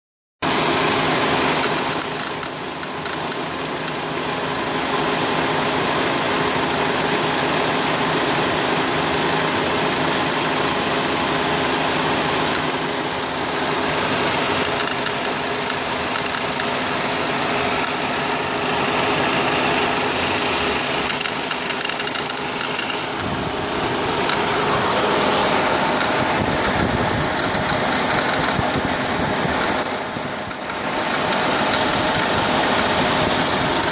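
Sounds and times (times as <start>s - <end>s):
car engine running: 0.4s - 33.9s.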